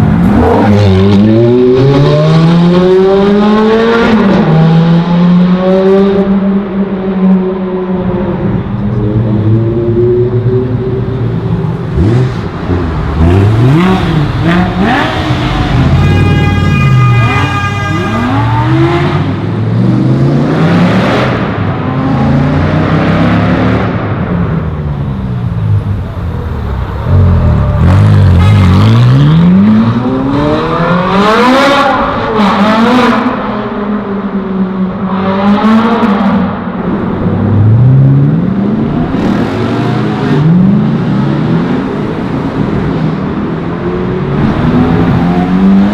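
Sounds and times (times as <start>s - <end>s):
cars accelerating and revving: 0.0s - 45.9s.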